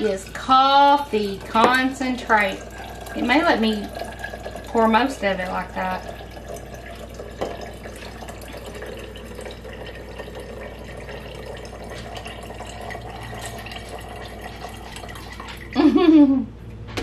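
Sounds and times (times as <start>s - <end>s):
liquid trickling into a glass jar: 0.0s - 16.0s.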